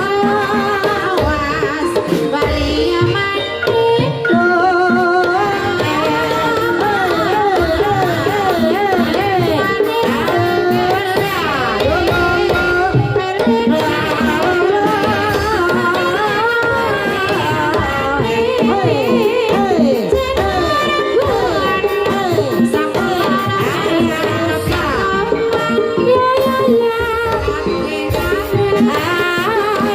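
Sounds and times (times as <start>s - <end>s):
gamelan percussion: 0.0s - 29.9s
hand drums: 0.0s - 29.9s.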